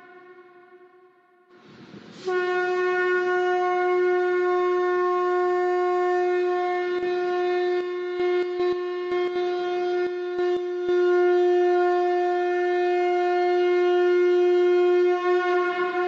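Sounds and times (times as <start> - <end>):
conch shell trumpet blast: 0.0 - 1.4, 2.1 - 16.0.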